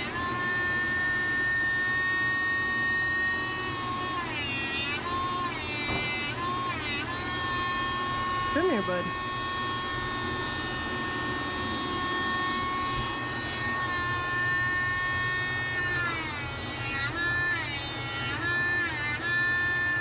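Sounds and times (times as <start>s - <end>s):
rotary nail grinder whining: 0.0s - 20.0s.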